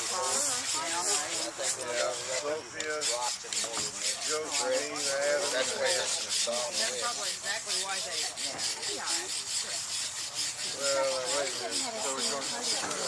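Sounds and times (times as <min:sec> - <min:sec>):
faint voices: 0:00.0 - 0:13.0
scrubbing strokes on stone: 0:00.0 - 0:13.0.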